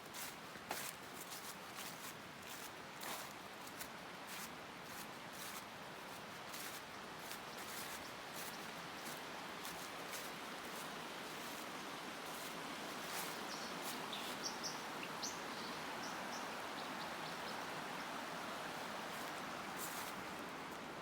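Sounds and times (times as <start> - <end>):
mountain stream rushing: 1.8 - 21.0.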